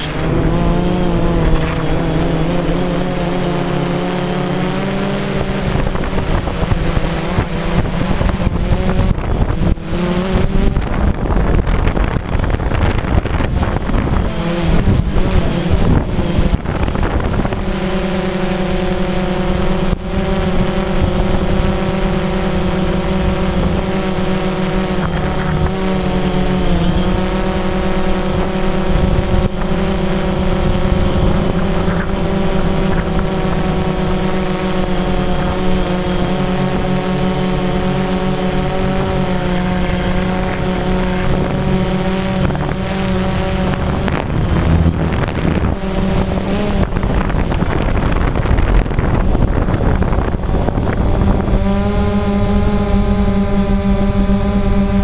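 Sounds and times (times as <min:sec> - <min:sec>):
drone propellers whining: 0:00.0 - 0:55.0.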